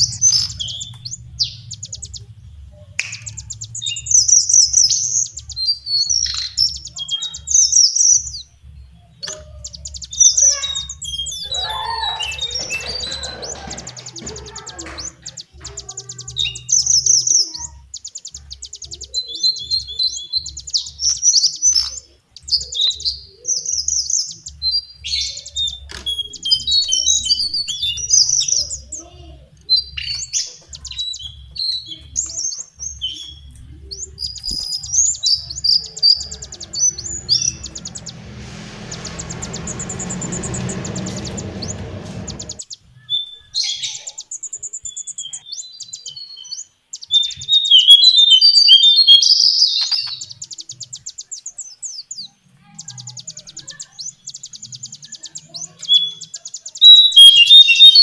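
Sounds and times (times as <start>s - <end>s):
bird singing high trills: 0.0s - 8.5s, 9.2s - 29.1s, 29.7s - 58.0s
faint low hum: 0.0s - 46.6s.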